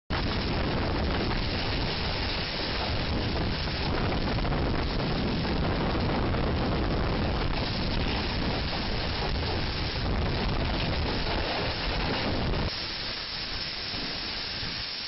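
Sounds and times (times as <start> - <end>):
loud rushing wind: 0.1 - 15.0.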